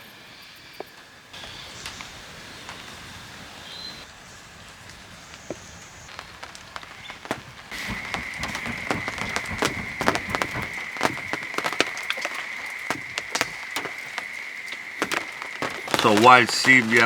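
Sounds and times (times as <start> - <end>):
rain drops ticking on a surface: 0.6 - 17.0.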